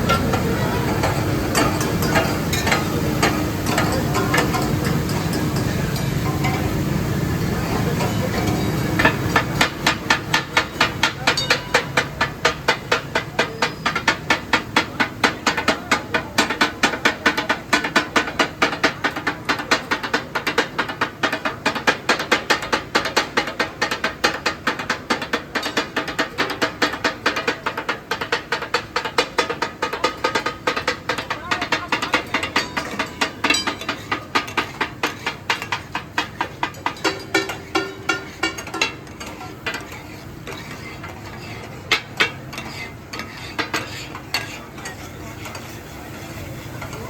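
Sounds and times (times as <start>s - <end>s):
food sizzling: 0.0s - 18.0s, 18.6s - 47.0s
metal spatulas striking iron griddle: 0.0s - 47.0s.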